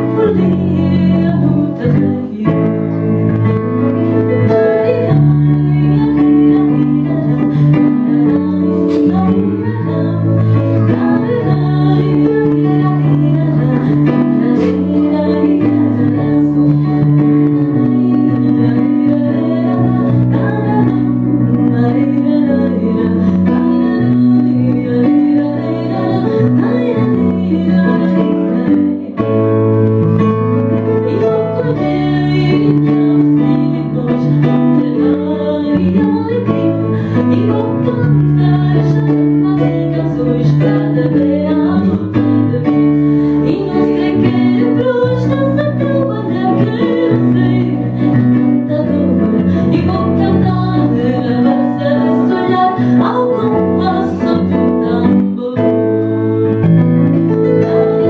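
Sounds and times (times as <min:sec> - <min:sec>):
piano chords: 0:00.0 - 0:58.0
woman singing: 0:00.0 - 0:58.0.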